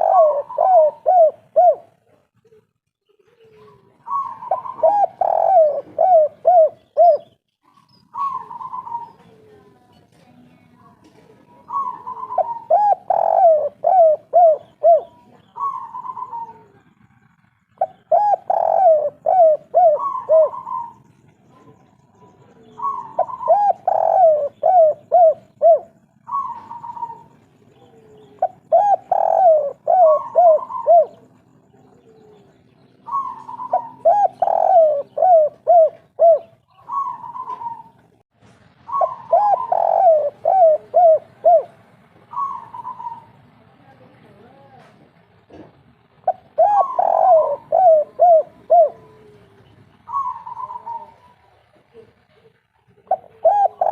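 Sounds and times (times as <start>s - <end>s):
dove cooing: 0.0s - 9.8s, 11.0s - 38.2s, 38.8s - 43.7s, 46.2s - 53.9s.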